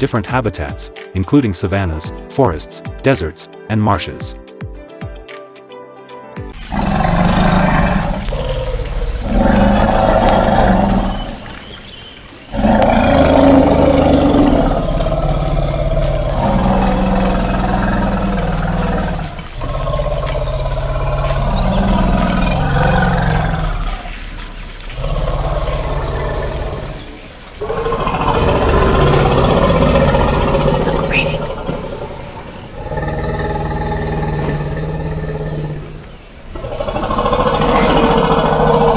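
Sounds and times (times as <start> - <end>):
elephant calling: 6.5 - 38.9.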